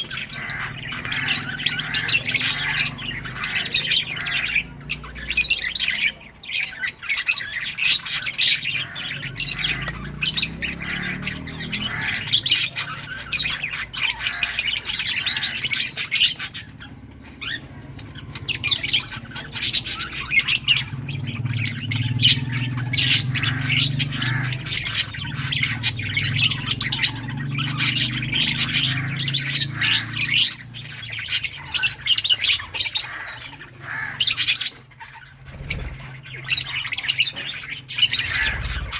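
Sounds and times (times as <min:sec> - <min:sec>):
lovebirds chattering: 0:00.0 - 0:38.9.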